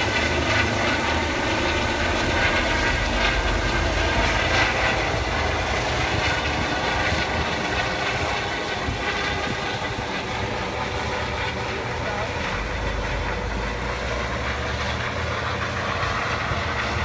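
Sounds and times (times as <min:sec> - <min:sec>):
helicopter passing overhead: 0:00.0 - 0:17.0.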